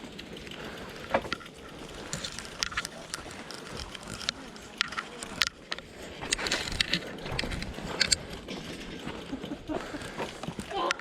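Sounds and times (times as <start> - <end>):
bicycle clicks: 0.0 - 11.0.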